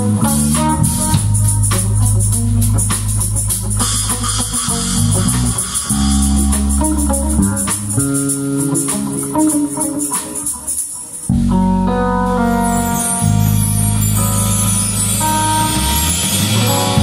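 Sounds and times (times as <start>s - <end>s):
bass guitar: 0.0s - 17.0s
drums and cymbals: 0.0s - 17.0s
electric guitar: 0.0s - 17.0s.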